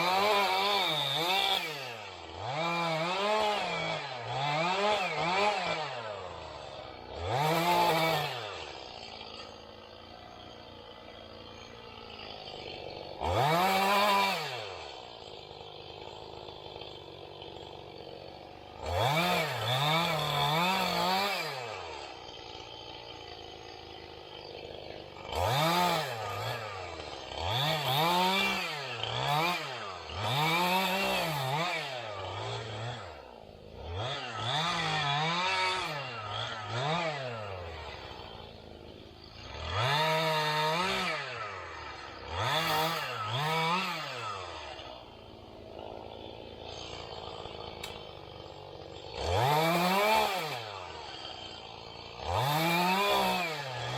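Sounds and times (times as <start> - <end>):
small engine revving: 0.0 - 53.9.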